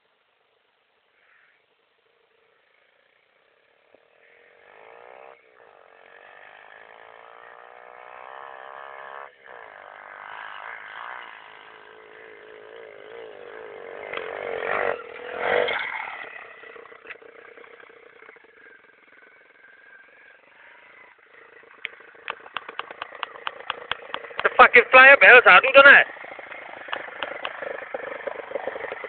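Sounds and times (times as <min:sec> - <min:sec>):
pit bike engine revving: 0:02.0 - 0:29.0.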